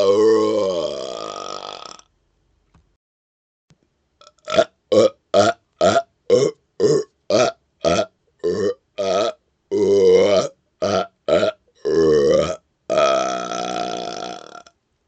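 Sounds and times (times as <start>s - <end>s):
man burping rapidly: 0.0s - 2.1s, 4.2s - 14.7s.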